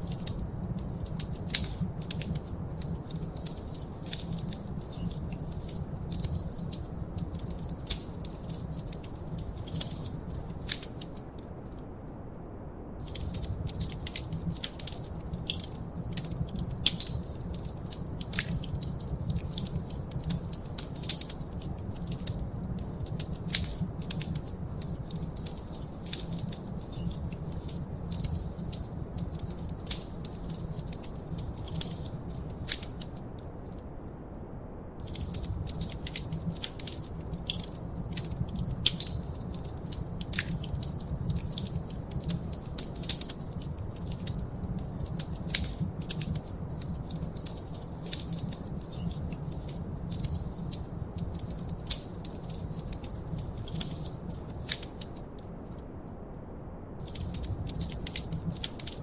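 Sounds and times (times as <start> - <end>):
wood fire crackling: 0.0 - 12.0, 13.0 - 33.8, 35.0 - 56.0, 57.0 - 59.0.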